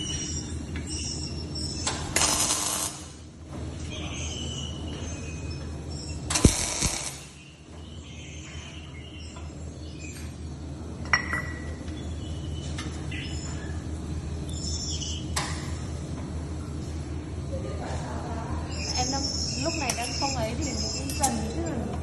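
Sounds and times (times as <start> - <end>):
low workshop hum: 0.0 - 22.0.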